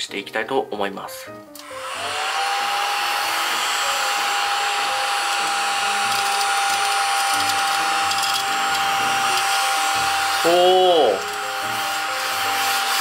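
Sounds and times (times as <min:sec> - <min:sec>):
small vacuum motor whine: 0:01.6 - 0:13.0.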